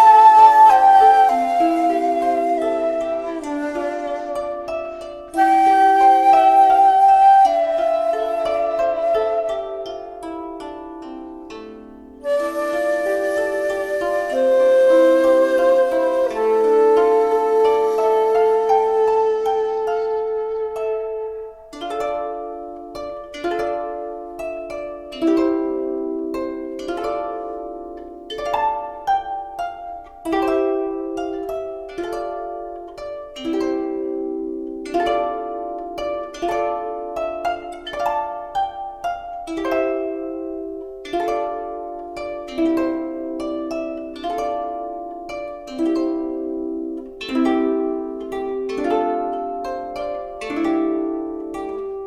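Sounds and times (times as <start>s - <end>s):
plucked string melody: 0.0s - 52.0s.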